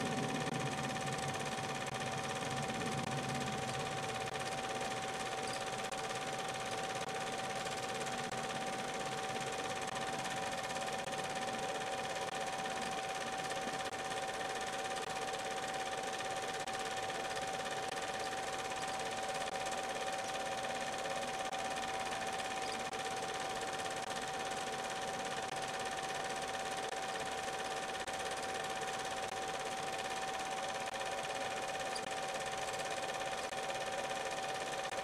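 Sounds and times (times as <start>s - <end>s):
film projector whirring: 0.0s - 35.0s.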